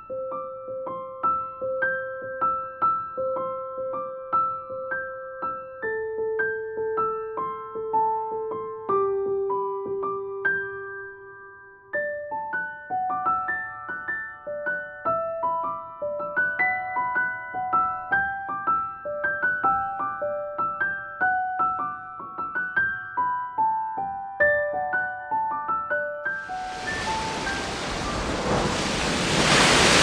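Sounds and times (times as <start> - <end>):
soft piano melody: 0.0 - 30.0.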